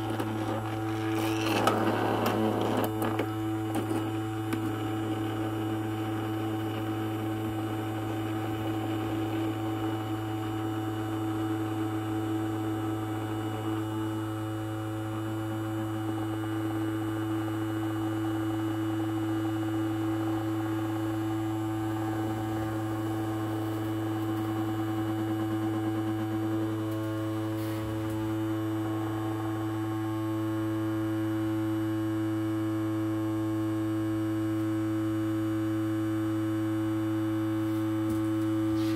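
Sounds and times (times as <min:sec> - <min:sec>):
ultrasonic cleaner buzzing hum: 0:00.0 - 0:38.9.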